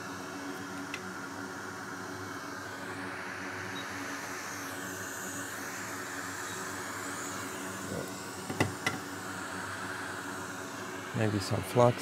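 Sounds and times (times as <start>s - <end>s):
whooshing fan noise: 0.0s - 12.0s.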